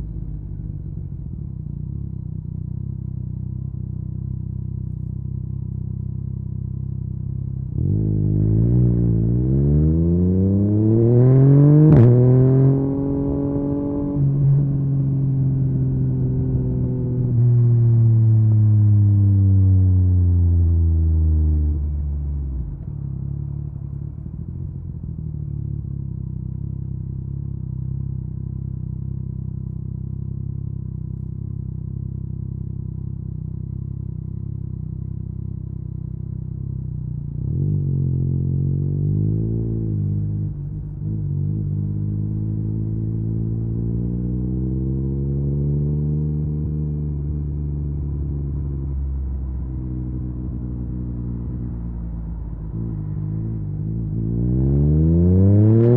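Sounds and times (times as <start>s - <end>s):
motorcycle engine revving: 2.8s - 20.7s, 26.5s - 55.9s.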